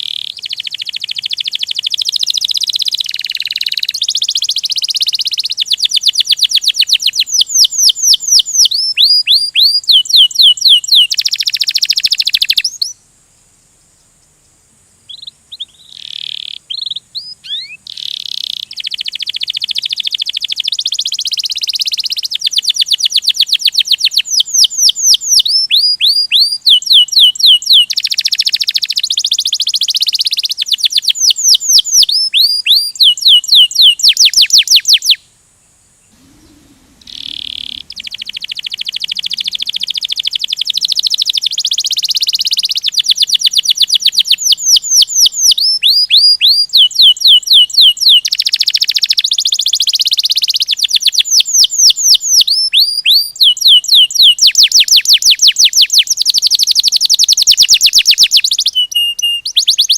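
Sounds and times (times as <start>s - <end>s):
canary singing trills: 0.0s - 13.0s, 15.1s - 35.3s, 36.0s - 59.9s.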